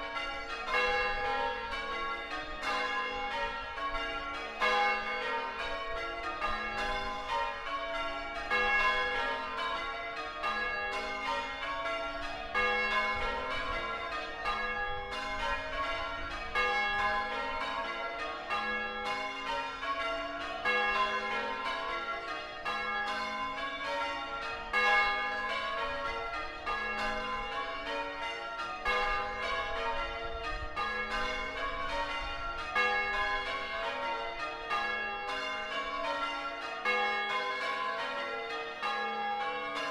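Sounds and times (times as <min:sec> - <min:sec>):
church bells change ringing: 0:00.0 - 0:39.9.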